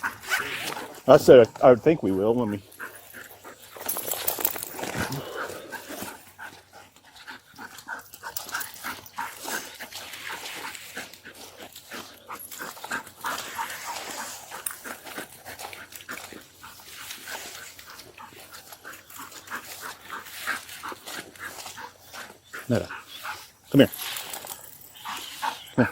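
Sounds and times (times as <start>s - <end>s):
dog panting rapidly: 0.0s - 25.9s.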